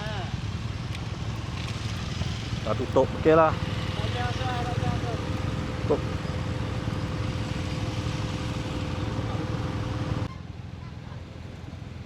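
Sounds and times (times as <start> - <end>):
motorcycle engine running: 0.0 - 12.0
wide noisy rush: 0.0 - 12.0.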